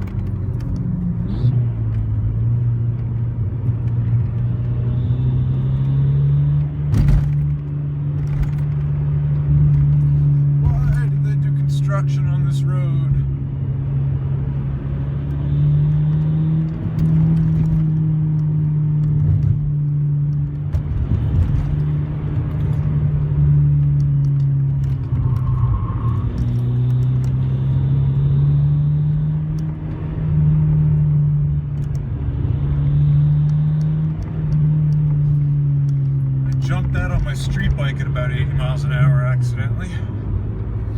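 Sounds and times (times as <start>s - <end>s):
car engine while driving: 0.0s - 40.9s
road noise: 0.0s - 40.9s.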